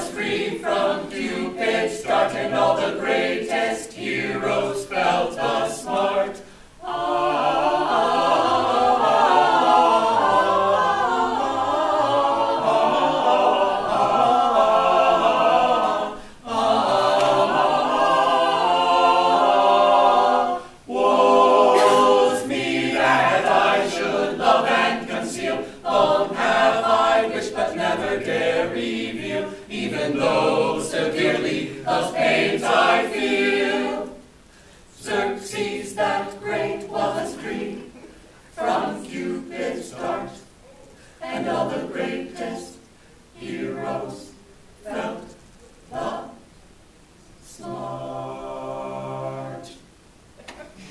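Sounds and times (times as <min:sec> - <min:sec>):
a cappella choir singing: 0:00.0 - 0:50.9.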